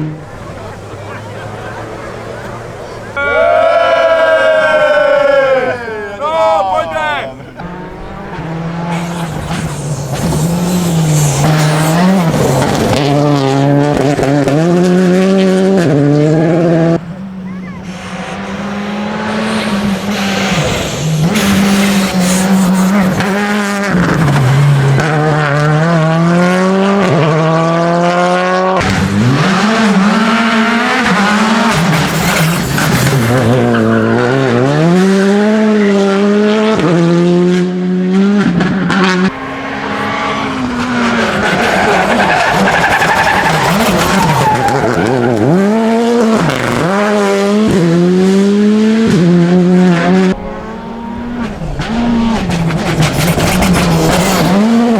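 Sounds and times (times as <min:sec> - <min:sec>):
tyres sliding: 0:00.0 - 0:25.4, 0:28.8 - 0:35.7, 0:38.6 - 0:48.2, 0:49.1 - 0:54.9
rally car engine revving: 0:00.0 - 0:54.9.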